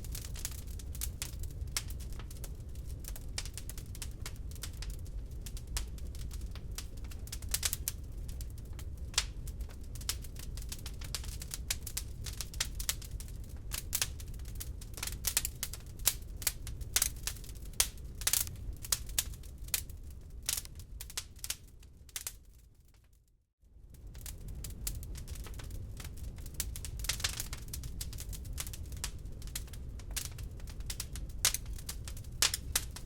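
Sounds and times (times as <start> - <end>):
log fire crackling: 0.0 - 23.2, 23.8 - 33.0
low rumble of burning: 0.0 - 33.0.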